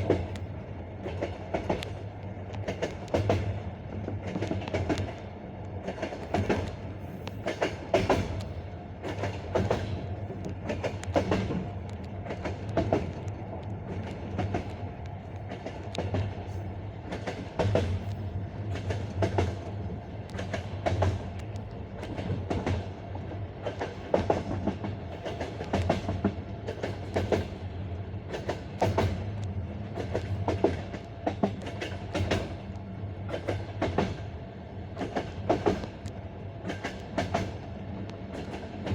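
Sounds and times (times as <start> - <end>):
train rumbling: 0.0 - 38.9
train wheels clickety-clack: 0.0 - 38.9.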